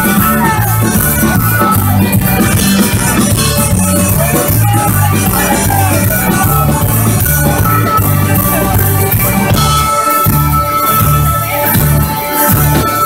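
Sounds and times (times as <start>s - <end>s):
drum and bass beat: 0.0s - 13.0s
folk band playing: 0.0s - 13.0s.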